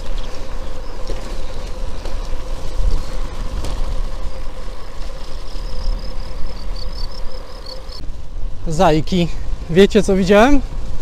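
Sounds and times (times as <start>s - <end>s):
wind and road rumble: 0.0s - 11.0s.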